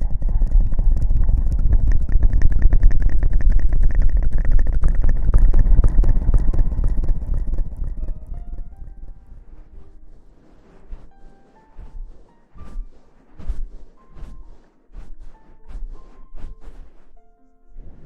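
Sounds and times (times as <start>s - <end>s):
rustling against microphone: 0.0s - 18.0s.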